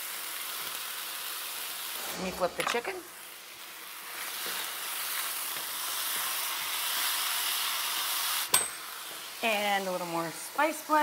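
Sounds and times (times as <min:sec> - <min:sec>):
chicken sizzling in a skillet: 0:00.0 - 0:11.0.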